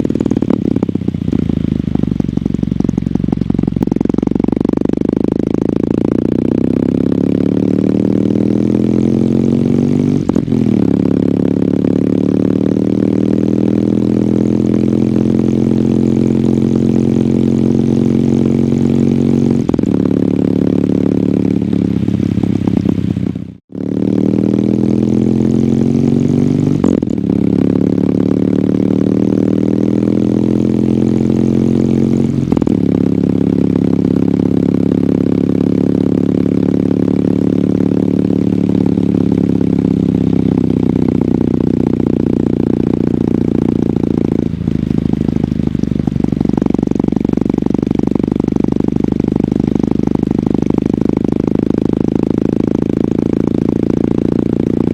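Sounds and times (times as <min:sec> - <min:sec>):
motorcycle engine shifting gears: 0:00.0 - 0:54.9.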